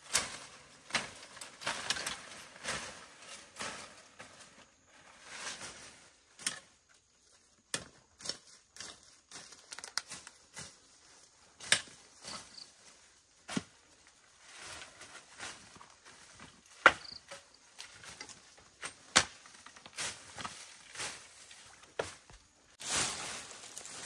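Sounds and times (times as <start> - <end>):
leaves and stems rustling: 0.0 - 24.0.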